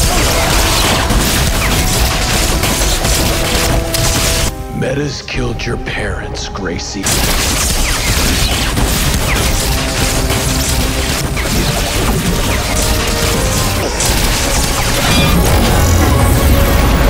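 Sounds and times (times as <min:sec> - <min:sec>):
crashing and booming effects: 0:00.0 - 0:04.6, 0:07.0 - 0:17.0
dramatic music score: 0:00.0 - 0:17.0.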